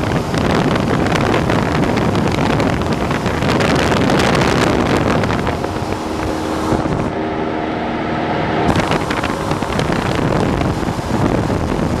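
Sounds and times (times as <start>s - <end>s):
propeller plane engine running: 0.0s - 12.0s
wind noise on microphone: 0.0s - 12.0s.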